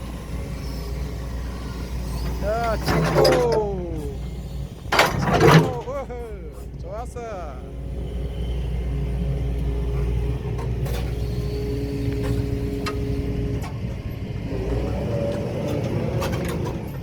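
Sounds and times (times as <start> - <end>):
excavator diesel engine running: 0.0 - 17.0
hydraulics whining: 0.0 - 17.0.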